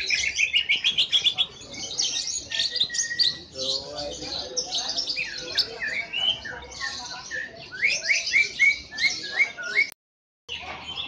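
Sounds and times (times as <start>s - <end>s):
bird singing whistled notes: 0.0s - 10.0s.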